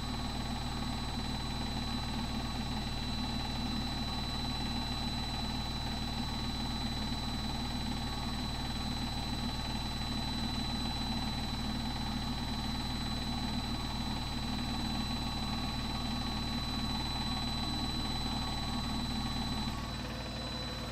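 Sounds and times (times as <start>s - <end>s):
high-pitched whine: 0.0s - 20.9s.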